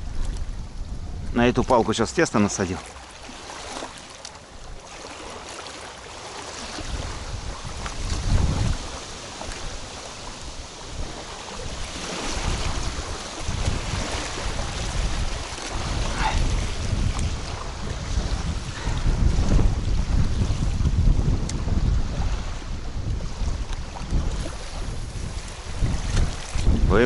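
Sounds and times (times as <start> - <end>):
waves splashing on shore: 0.0 - 27.0
wind buffeting microphone: 0.0 - 27.0.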